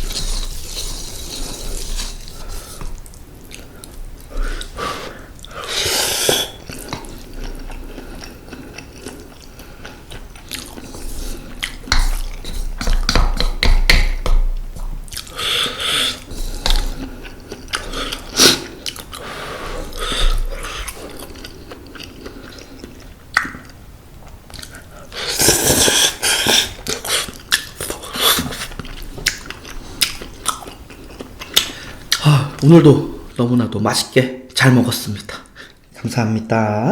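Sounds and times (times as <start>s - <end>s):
wet chewing of noodles: 0.0s - 32.7s.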